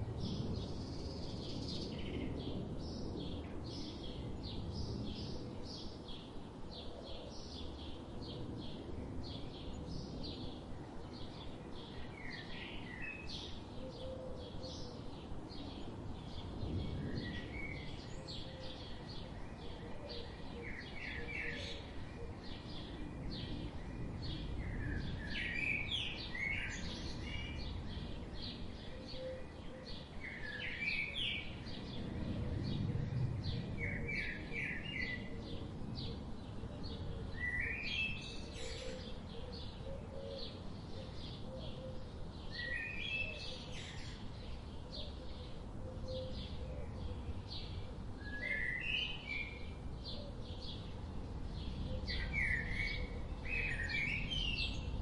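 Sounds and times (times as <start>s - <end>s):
steady low background noise: 0.0s - 55.0s.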